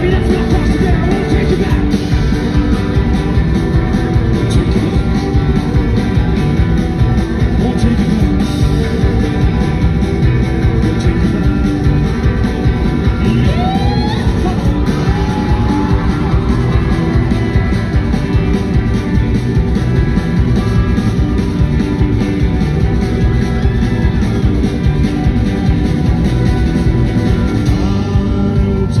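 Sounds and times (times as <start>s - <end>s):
bass guitar: 0.0s - 29.0s
drums: 0.0s - 29.0s
electric guitar: 0.0s - 29.0s.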